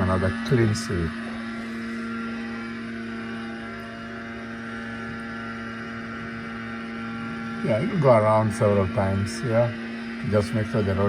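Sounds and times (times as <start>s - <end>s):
snow-clearing machine engine hum: 0.0s - 11.0s.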